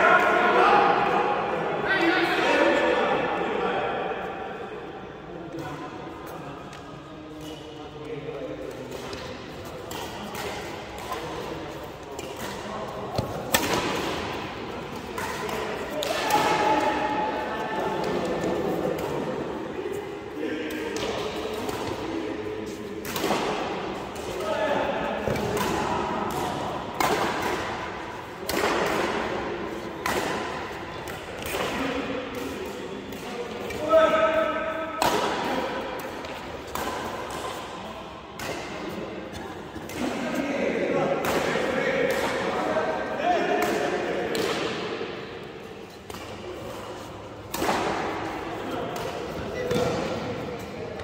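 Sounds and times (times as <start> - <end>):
racket hitting shuttlecock: 8.6 - 40.3, 41.1 - 51.0.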